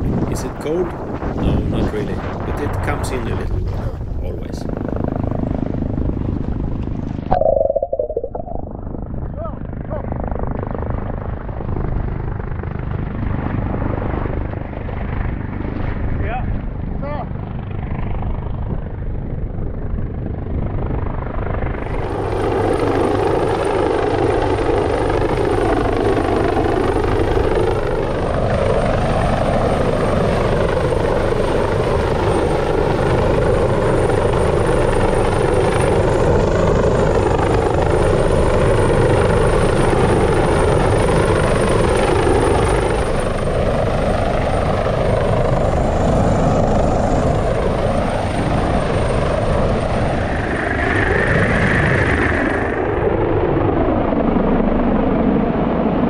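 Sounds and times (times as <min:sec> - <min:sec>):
helicopter rotor and turbine noise: 0:00.0 - 0:56.0.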